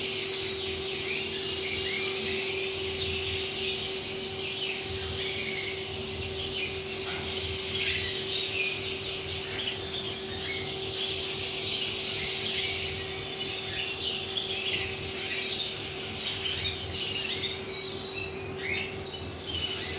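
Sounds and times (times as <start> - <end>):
canary singing trills: 0.0 - 19.9.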